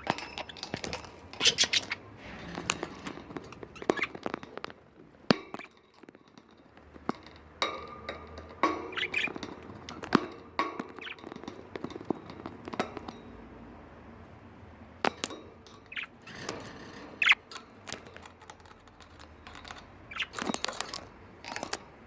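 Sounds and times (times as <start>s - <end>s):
beaks pecking cage objects: 0.0s - 22.0s.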